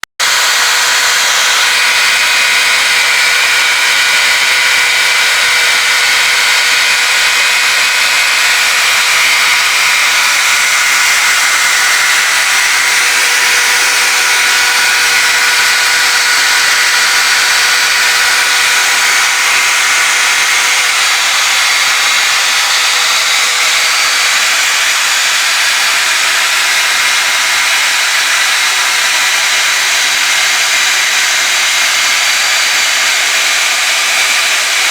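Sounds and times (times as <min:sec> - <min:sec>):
lathe motor whine: 0:00.2 - 0:34.9.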